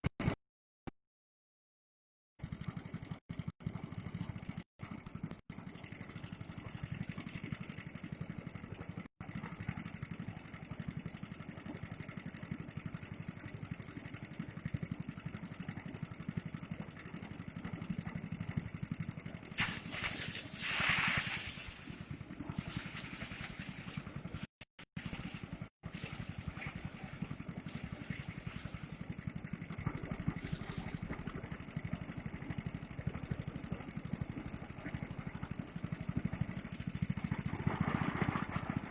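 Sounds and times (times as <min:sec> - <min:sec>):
small engine running: 0:02.4 - 0:38.9.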